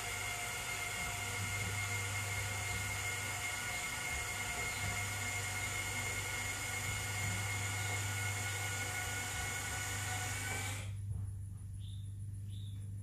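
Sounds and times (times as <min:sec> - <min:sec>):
electric actuator motor whine: 0:00.0 - 0:10.9.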